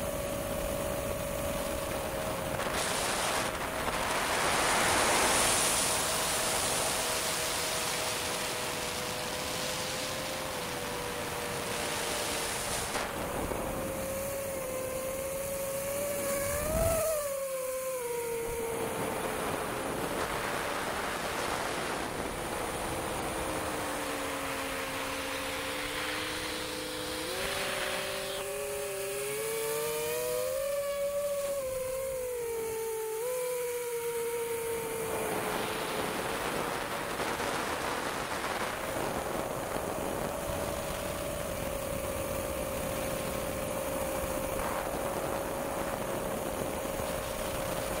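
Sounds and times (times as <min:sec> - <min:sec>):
drone motors whining: 0:00.0 - 0:48.0.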